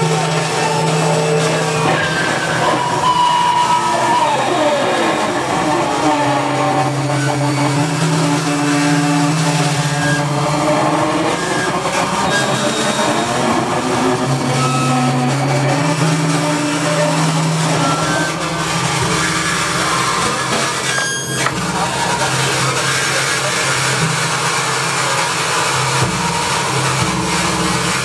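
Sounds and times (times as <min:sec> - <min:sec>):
harsh electronic noise: 0:00.0 - 0:28.0
low drone tones: 0:00.0 - 0:28.0.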